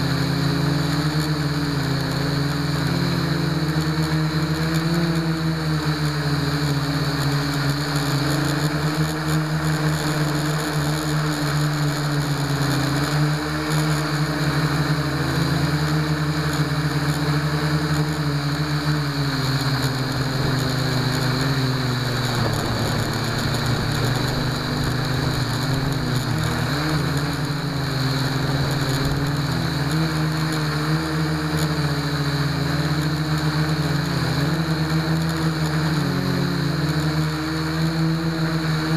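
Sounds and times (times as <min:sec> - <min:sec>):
quadcopter motors buzzing: 0:00.0 - 0:38.9.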